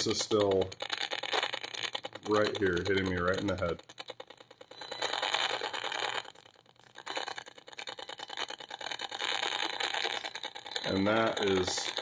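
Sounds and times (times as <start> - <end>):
rapid crackling buzz of clicks: 0.0 - 12.0.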